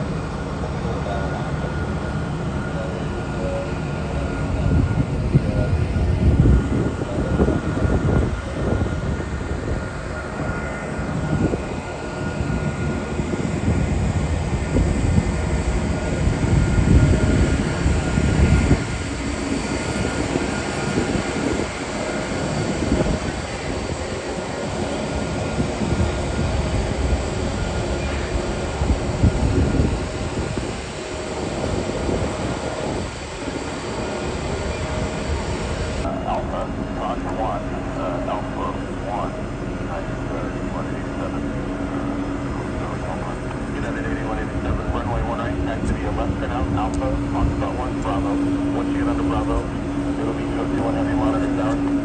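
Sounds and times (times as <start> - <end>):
faint steady whine: 0.0 - 52.0
jet engines rumbling: 0.0 - 52.0.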